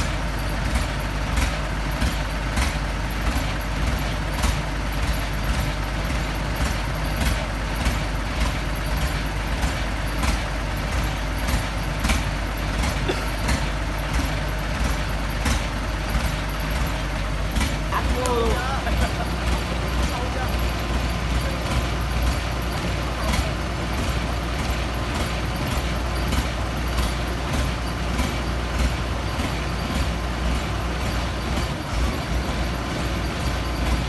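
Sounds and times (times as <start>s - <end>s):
excavator engine rumbling: 0.0s - 34.0s.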